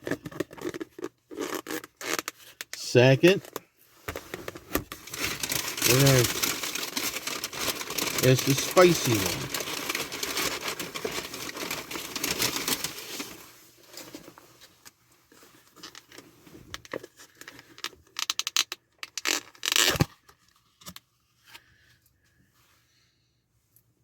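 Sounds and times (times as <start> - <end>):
plastic food bowl crinkling: 0.0 - 21.0.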